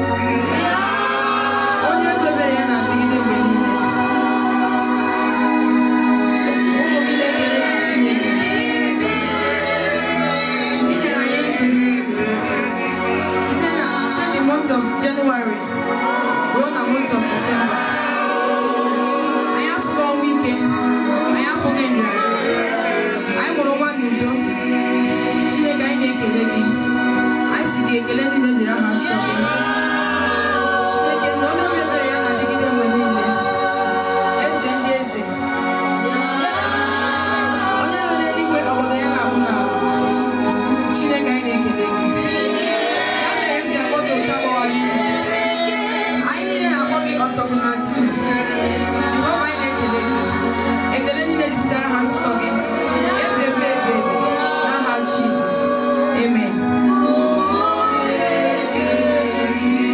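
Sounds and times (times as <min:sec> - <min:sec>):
choir singing: 0:00.0 - 0:59.9
sustained held chords: 0:00.0 - 0:59.9.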